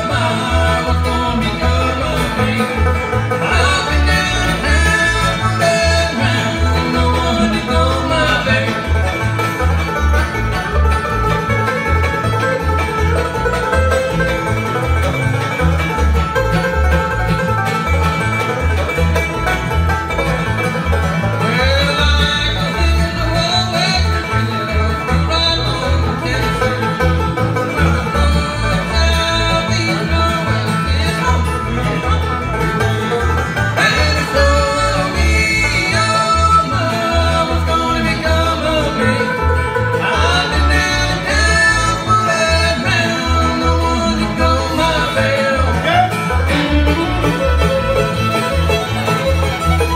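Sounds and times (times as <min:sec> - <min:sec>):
acoustic guitar: 0:00.0 - 0:49.9
banjo rolls: 0:00.0 - 0:49.9
bass notes: 0:00.0 - 0:49.9
fiddle: 0:00.0 - 0:49.9.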